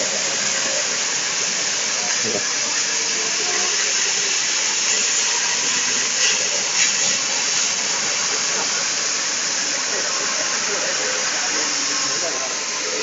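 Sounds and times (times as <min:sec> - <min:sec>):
laser cutter gas jet hissing: 0:00.0 - 0:13.0.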